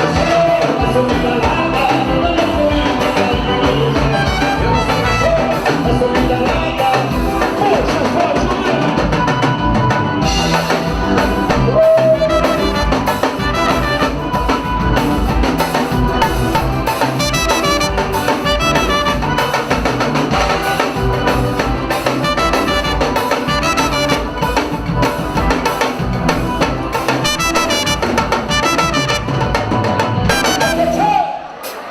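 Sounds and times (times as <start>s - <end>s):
band music with brass and drums: 0.0s - 31.9s.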